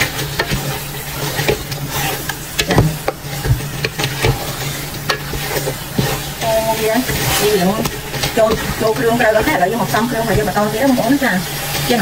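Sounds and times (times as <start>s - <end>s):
soft frying sizzle: 0.0s - 12.0s
spatula scraping a metal pot: 0.0s - 12.0s
steady low hum: 0.0s - 12.0s.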